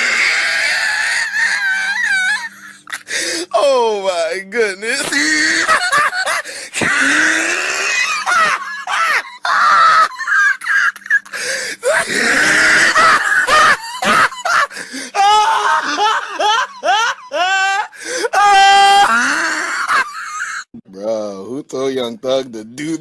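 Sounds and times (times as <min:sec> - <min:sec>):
person laughing and wheezing: 0:00.0 - 0:03.5, 0:05.0 - 0:20.7.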